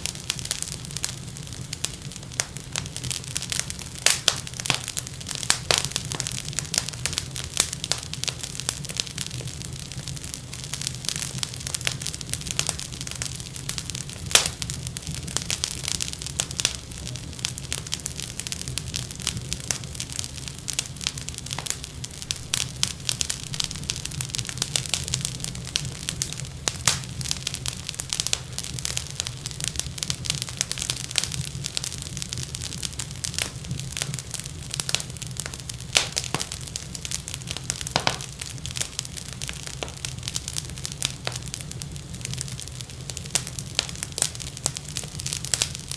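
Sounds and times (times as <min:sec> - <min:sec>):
fire crackling and popping: 0:00.0 - 0:45.9
low rumble of flames: 0:00.0 - 0:45.9.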